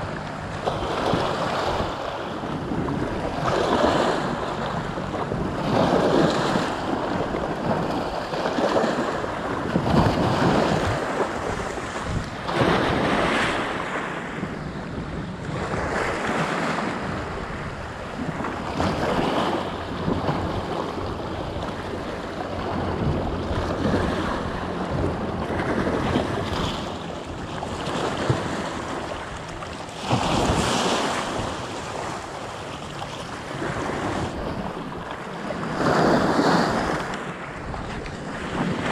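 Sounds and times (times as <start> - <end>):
waves washing over rocks: 0.0 - 38.9
wind buffeting microphone: 0.0 - 38.9.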